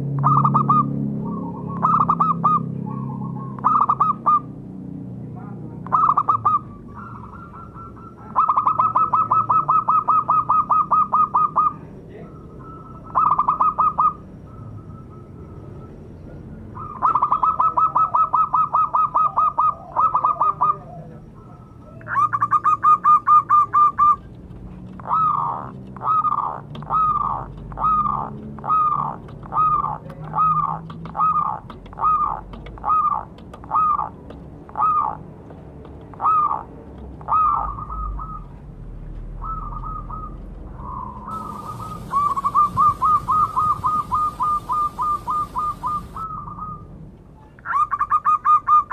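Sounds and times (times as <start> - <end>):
dove cooing: 0.1 - 4.5, 5.8 - 15.6, 16.8 - 24.4, 25.0 - 35.2, 36.1 - 38.6, 39.3 - 46.9.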